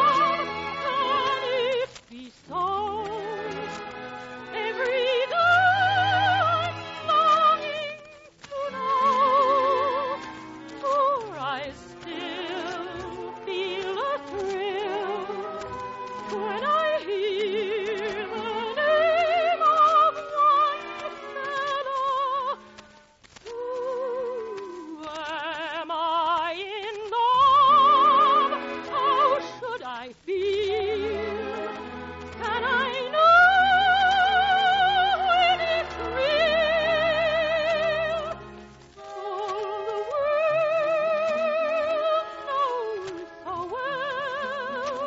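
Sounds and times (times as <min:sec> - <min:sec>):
operatic soprano singing: 0:00.0 - 0:45.0
orchestra: 0:00.0 - 0:45.0.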